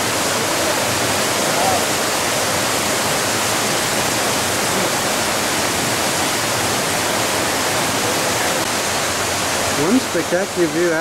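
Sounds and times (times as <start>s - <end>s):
creek cascading through rocks: 0.0s - 11.0s.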